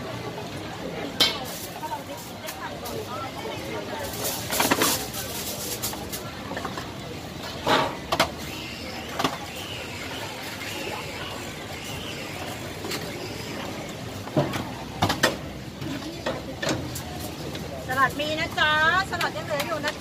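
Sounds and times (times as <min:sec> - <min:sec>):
busy street-food stall noise: 0:00.0 - 0:20.0.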